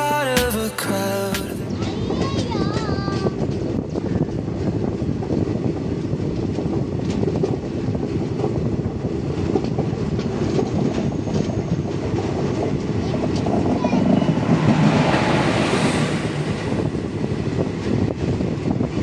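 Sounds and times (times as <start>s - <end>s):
train wheels rumbling on rail: 1.7s - 19.0s.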